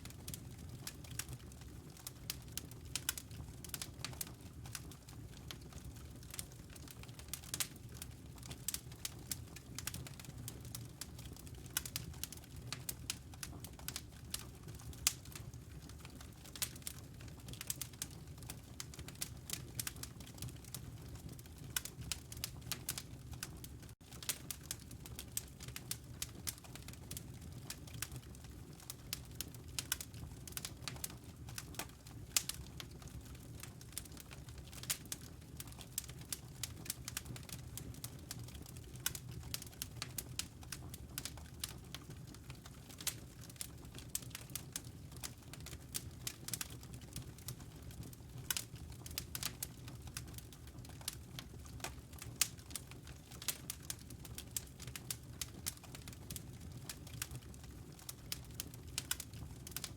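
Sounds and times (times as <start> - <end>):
fire crackling in a fireplace: 0.0 - 59.9.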